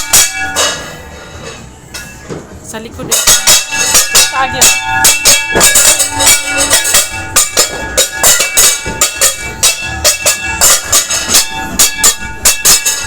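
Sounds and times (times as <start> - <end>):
metal clanging: 0.0 - 13.0.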